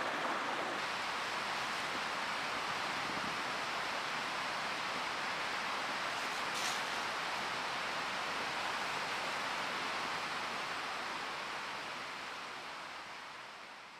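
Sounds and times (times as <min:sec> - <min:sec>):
mountain stream rushing: 0:00.0 - 0:13.9.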